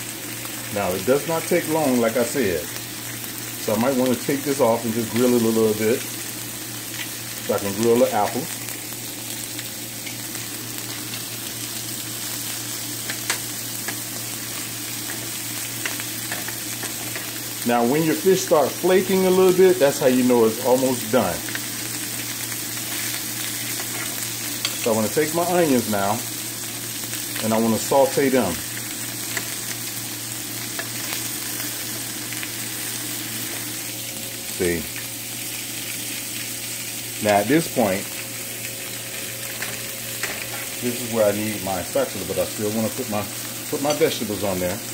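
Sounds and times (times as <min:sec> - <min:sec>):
fish sizzling in a grill pan: 0:00.0 - 0:44.9.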